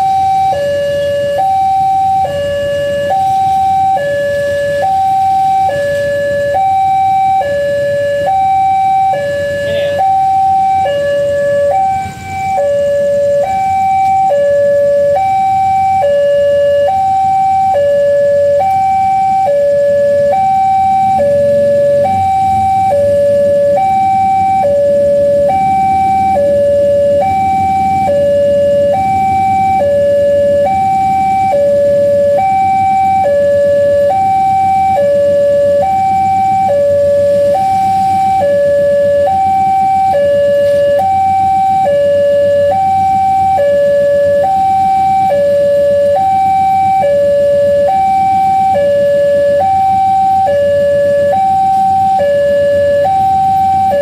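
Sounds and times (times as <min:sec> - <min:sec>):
level crossing two-note alarm: 0:00.0 - 0:54.0.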